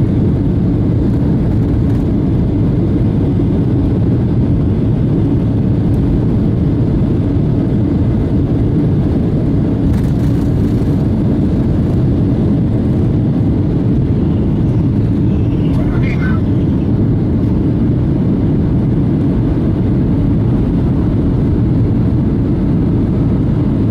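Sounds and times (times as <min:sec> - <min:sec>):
jet engine cabin noise: 0:00.0 - 0:23.9.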